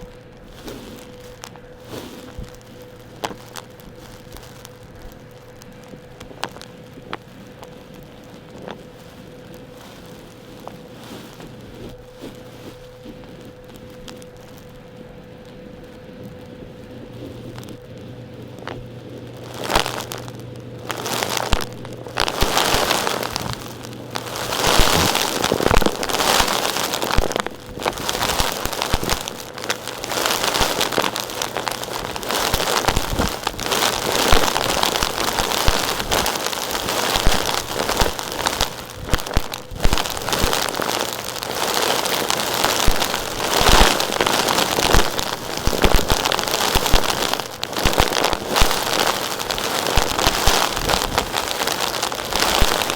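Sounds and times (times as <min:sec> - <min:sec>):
crackling of gritty rocky material: 0:00.0 - 0:52.9.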